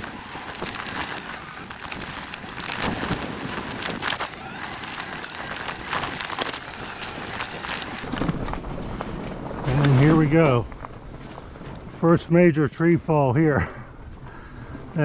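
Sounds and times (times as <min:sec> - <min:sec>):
tyre and wind noise: 0:00.0 - 0:12.5.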